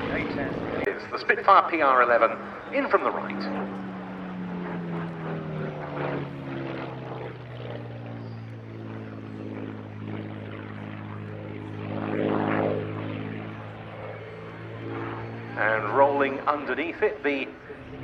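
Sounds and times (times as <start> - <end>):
propeller aircraft engine passing: 0.0 - 18.0.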